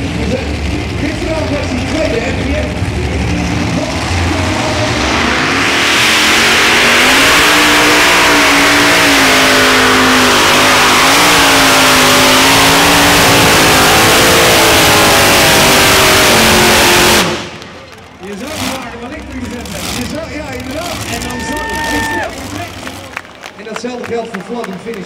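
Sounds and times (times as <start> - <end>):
tractor engines at full throttle: 0.0 - 25.0.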